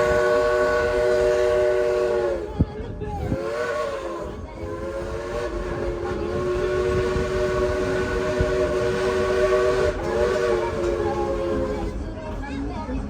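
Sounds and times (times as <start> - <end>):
steam locomotive chime whistle: 0.0 - 2.5, 3.4 - 12.0
moving train rumble: 0.0 - 13.0.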